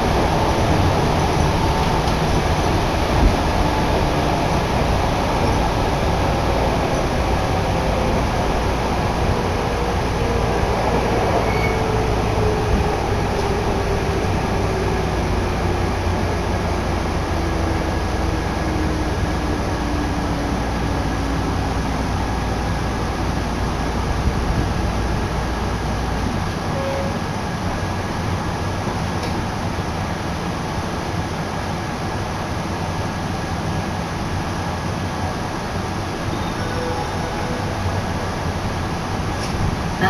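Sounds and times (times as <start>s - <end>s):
train wheels rumbling: 0.0s - 40.0s.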